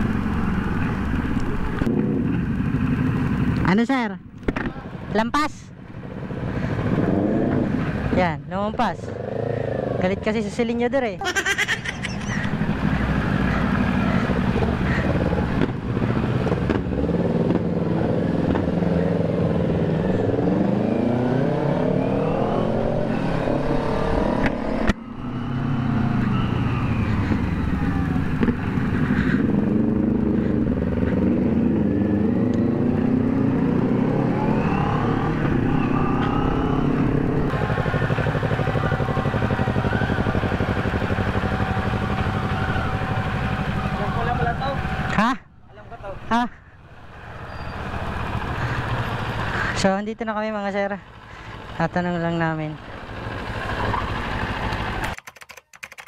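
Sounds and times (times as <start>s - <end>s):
motorcycle engines running: 0.0s - 55.2s.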